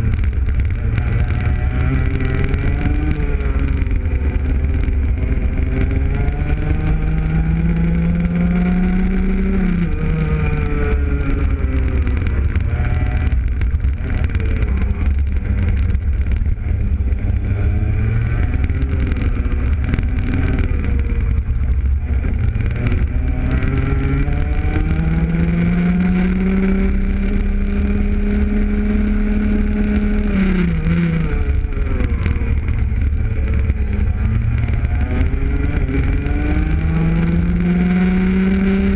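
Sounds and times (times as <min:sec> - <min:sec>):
heavy low rumble: 0:00.0 - 0:38.9
kart engine revving: 0:00.0 - 0:38.9.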